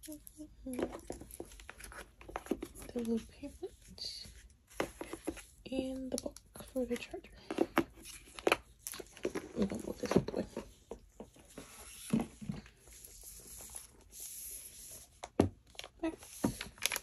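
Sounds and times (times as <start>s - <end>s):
cardboard and paper rustling: 0.0s - 17.0s.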